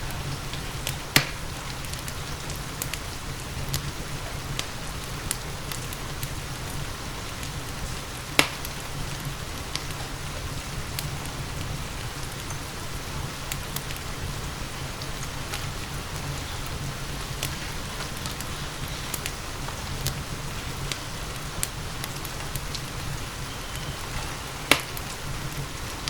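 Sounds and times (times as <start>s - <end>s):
steady rain hiss: 0.0s - 26.0s
wood fire crackling: 0.0s - 26.0s.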